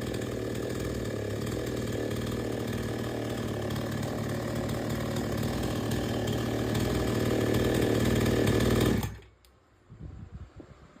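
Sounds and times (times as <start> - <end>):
chainsaw engine running: 0.0 - 9.3.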